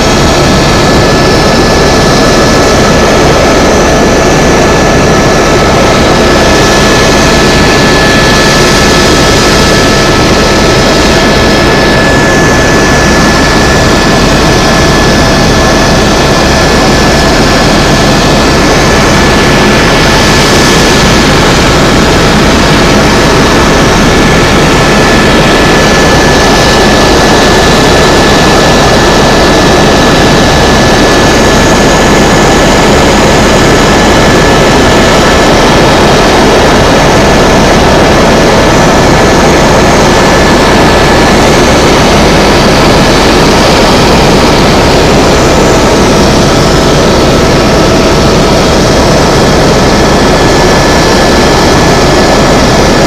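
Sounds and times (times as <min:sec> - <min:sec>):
helicopter turbine and rotor noise: 0:00.0 - 0:53.0
high-pitched whine: 0:00.0 - 0:53.0.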